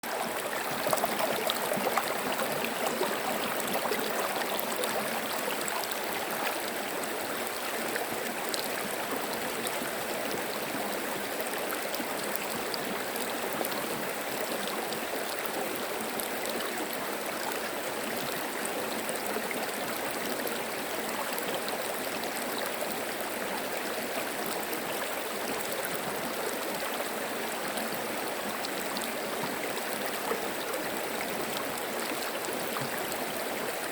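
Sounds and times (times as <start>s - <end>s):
stream water babbling: 0.0s - 33.9s.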